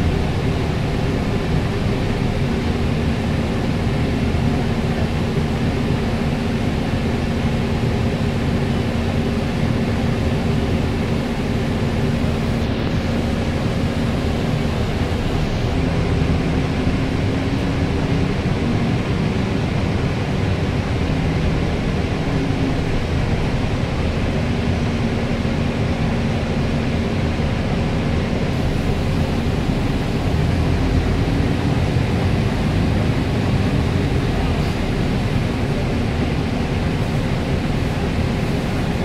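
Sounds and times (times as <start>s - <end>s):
bus engine and road noise: 0.0s - 39.0s.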